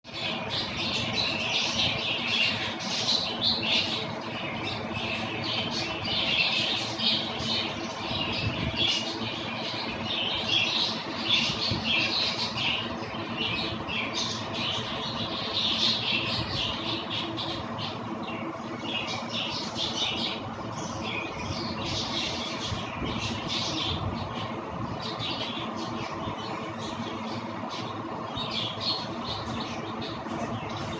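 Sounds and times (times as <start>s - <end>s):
cage birds chattering: 0.1s - 30.9s.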